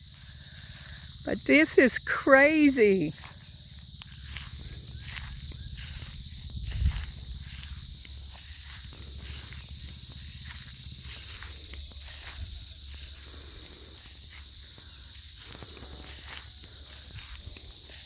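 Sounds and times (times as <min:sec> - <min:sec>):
faint footsteps on grass: 0:00.0 - 0:18.0
insects chirring: 0:00.0 - 0:18.0.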